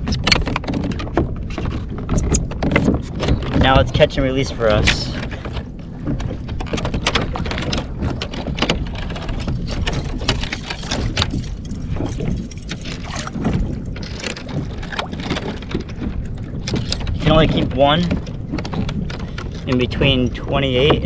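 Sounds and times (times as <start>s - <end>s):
gear clicks and knocks: 0.0s - 21.0s
water splashes: 0.0s - 21.0s
steady low rumble: 1.2s - 21.0s.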